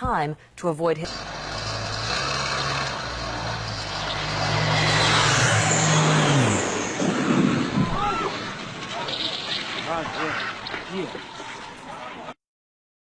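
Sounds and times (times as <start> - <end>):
aircraft engine passing: 1.1 - 11.8.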